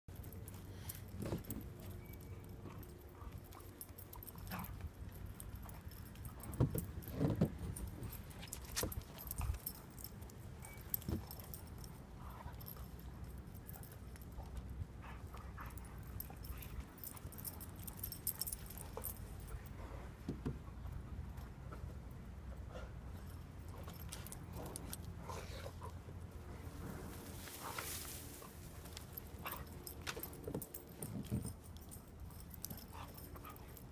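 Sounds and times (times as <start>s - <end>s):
light clicks and jingles: 0.1s - 33.9s.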